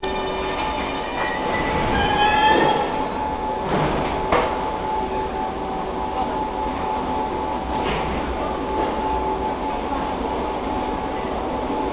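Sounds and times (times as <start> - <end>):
train whining on rails: 0.0 - 11.9.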